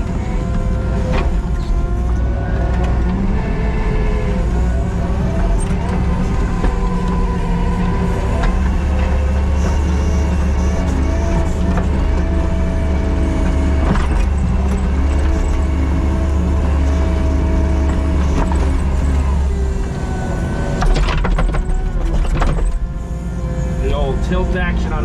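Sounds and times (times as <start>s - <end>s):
diesel engine under load: 0.0s - 25.0s
hydraulic whine: 0.0s - 25.0s.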